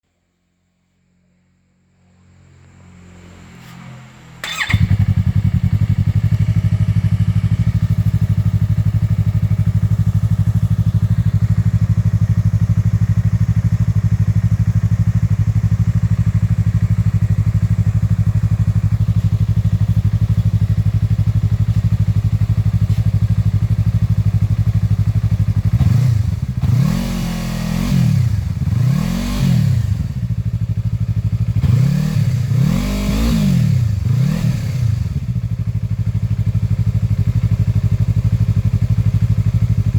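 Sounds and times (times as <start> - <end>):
motorcycle engine revving: 3.3 - 39.9
motorcycle engine idling: 4.4 - 29.2, 29.8 - 32.6, 34.8 - 39.9.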